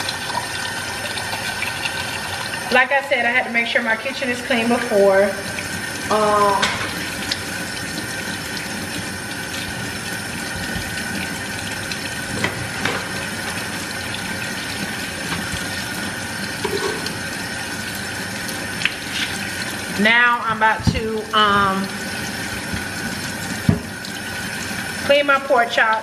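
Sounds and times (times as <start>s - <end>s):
kitchen tap running into sink: 0.0s - 26.0s.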